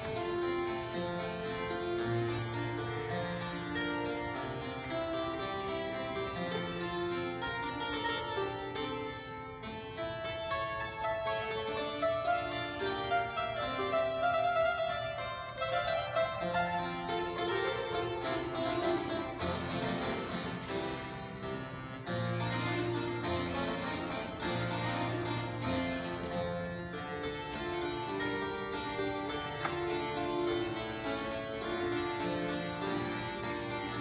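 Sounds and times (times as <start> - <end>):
harpsichord playing: 0.0 - 34.0.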